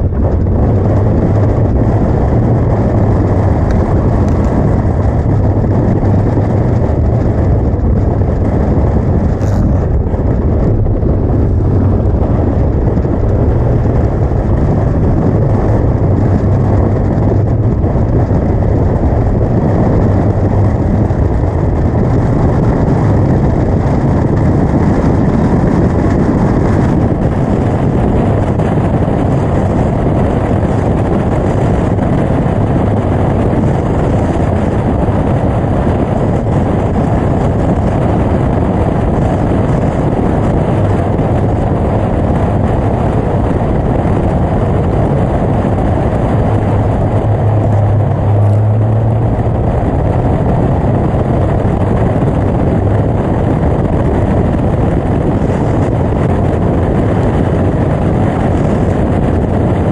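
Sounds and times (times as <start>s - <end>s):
racing car engine: 0.0s - 59.6s
wind and road noise: 0.0s - 59.9s.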